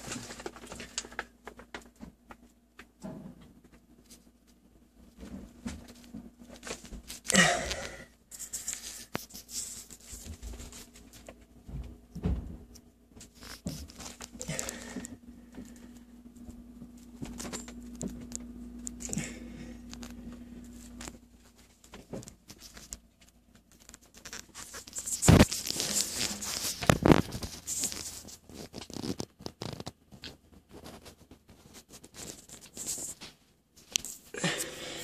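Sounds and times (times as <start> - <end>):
scraping and rustling: 0.0 - 34.8
steady low hum: 0.0 - 35.0.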